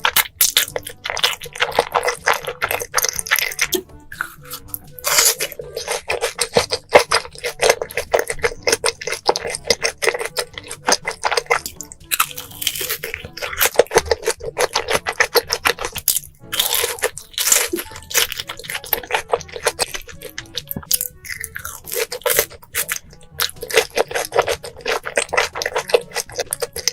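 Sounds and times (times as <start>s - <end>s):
crunchy chewing: 0.0s - 26.9s.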